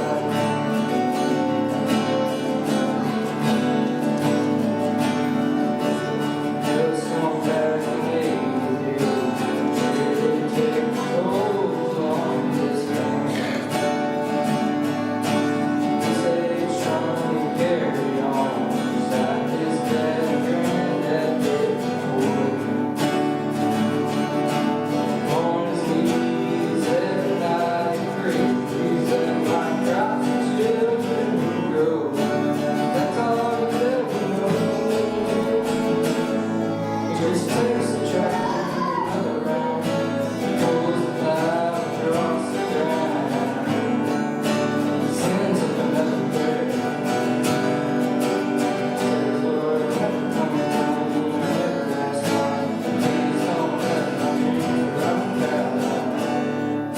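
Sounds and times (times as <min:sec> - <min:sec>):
acoustic guitar strumming: 0:00.0 - 0:56.9
person singing: 0:00.0 - 0:56.9.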